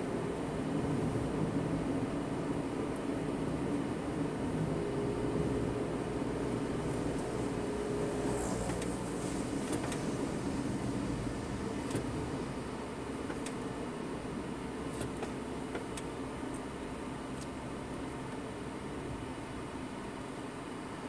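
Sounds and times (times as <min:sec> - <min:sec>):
vehicle engine and tyre noise: 0:00.0 - 0:21.0.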